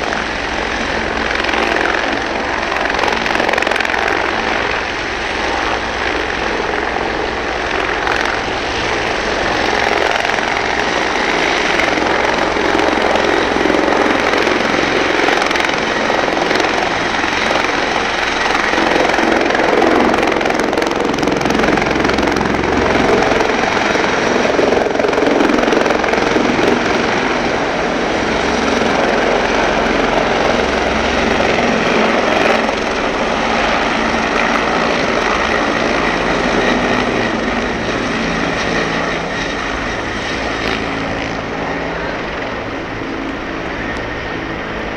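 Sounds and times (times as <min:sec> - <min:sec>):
helicopter rotor and engine: 0:00.0 - 0:44.9.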